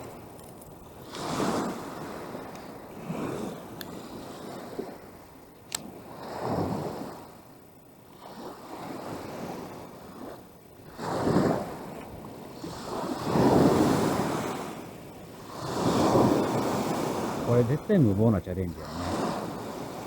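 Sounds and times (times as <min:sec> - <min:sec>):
lake water washing on shore: 0:00.0 - 0:07.4, 0:08.1 - 0:20.0.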